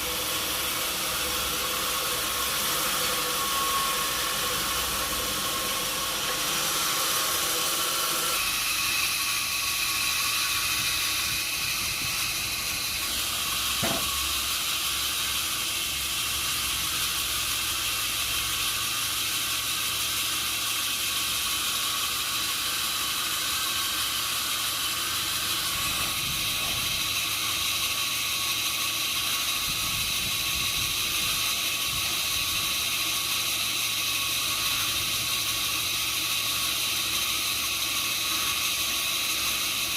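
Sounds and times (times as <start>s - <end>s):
sawmill machinery whining hiss: 0.0s - 39.9s.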